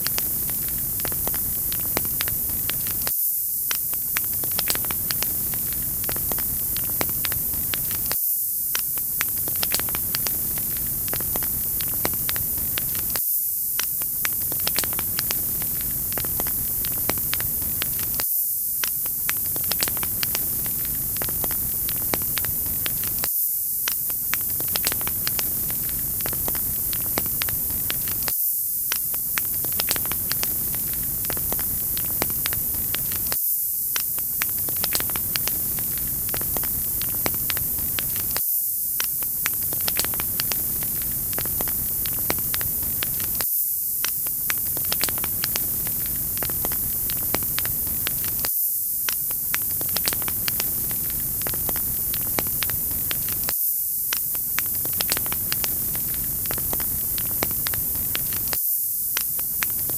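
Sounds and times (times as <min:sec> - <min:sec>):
wood fire crackling: 0:00.0 - 0:03.1, 0:03.7 - 0:13.2, 0:13.8 - 0:18.2, 0:18.8 - 0:28.3, 0:29.0 - 0:38.4, 0:39.0 - 0:43.4, 0:44.0 - 0:53.5, 0:54.1 - 0:58.6, 0:59.2 - 0:59.9
steady fire hiss: 0:00.0 - 0:59.9.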